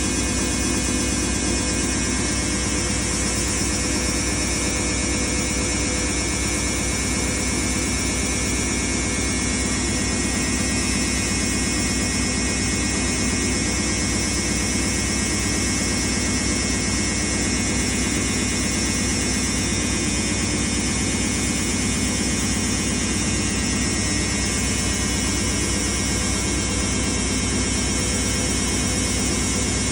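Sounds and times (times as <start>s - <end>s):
washing machine whirring: 0.0s - 29.9s.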